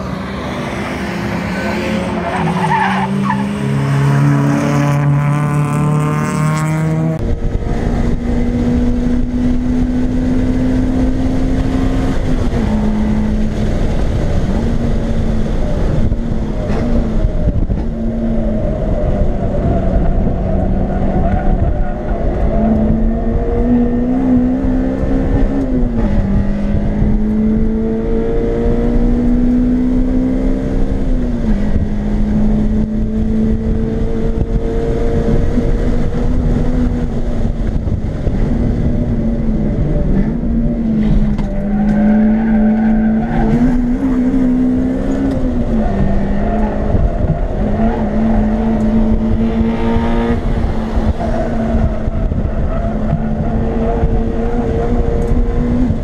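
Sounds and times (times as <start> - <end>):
car engine revving high: 0.0 - 56.0
road and wind noise: 0.0 - 56.0.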